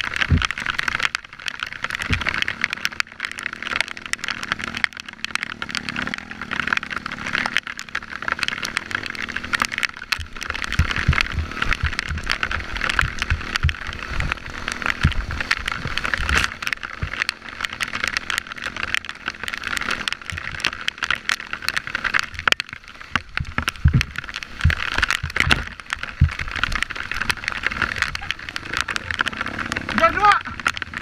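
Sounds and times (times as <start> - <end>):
bike knocking and rattling: 0.0 - 31.0
dirt bike engine running: 0.0 - 31.0.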